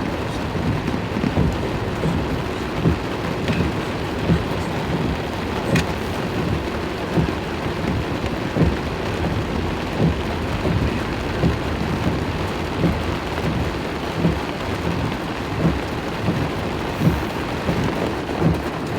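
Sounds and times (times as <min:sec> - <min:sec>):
steady low rumble: 0:00.0 - 0:18.0
heavy rain drumming on a car: 0:00.0 - 0:18.9
windshield wiper thumps: 0:00.0 - 0:18.9.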